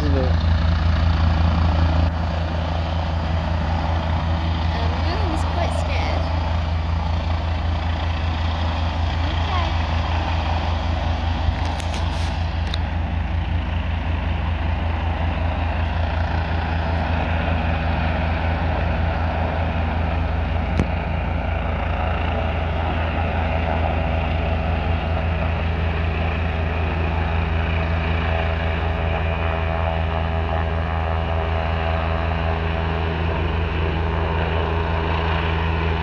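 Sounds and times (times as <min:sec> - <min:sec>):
helicopter rotor blades beating: 0:00.0 - 0:36.0
turbine rushing: 0:00.0 - 0:36.0.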